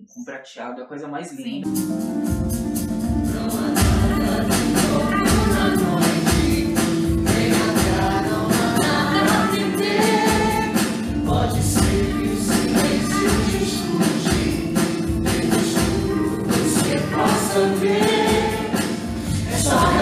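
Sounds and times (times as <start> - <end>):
band playing a steady beat: 1.7 - 20.0
ensemble singing together: 3.2 - 20.0.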